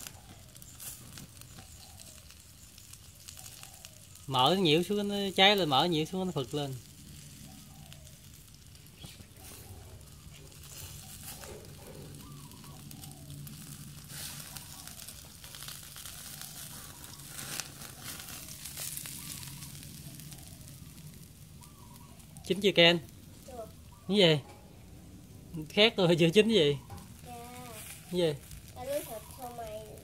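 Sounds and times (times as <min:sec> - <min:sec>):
fat flaring on coals: 0:00.0 - 0:30.0
meat sizzling on a grill: 0:00.0 - 0:30.0.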